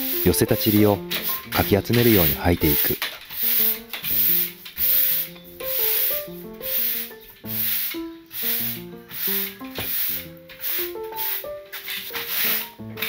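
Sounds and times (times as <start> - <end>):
broom sweeping mats: 0.0 - 13.0.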